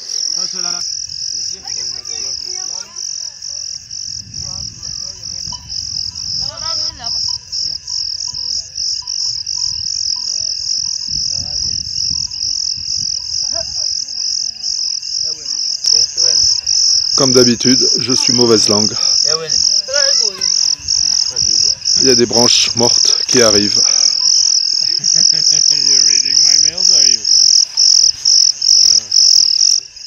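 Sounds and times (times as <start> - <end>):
faint wavering insect calls: 0.0 - 30.0
insects trilling: 0.0 - 30.0.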